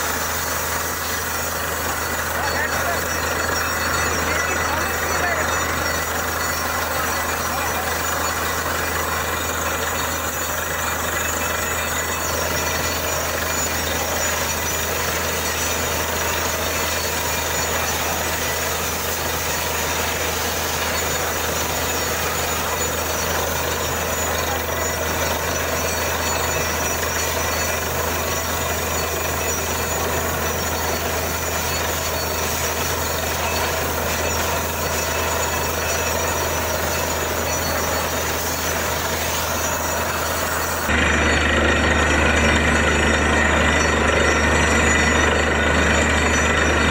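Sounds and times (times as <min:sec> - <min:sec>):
drilling rig running: 0:00.0 - 0:46.9.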